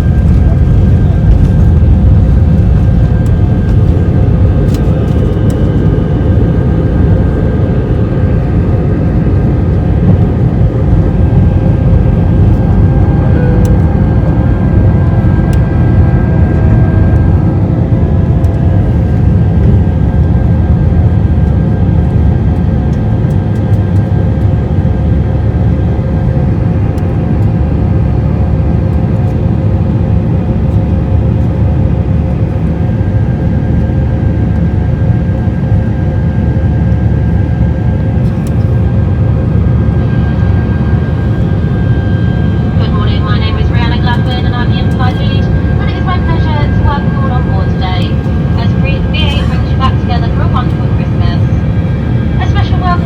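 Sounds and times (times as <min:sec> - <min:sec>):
steady engine tones: 0:00.0 - 0:28.8, 0:34.4 - 0:53.0
jet engines rumbling: 0:00.0 - 0:53.0.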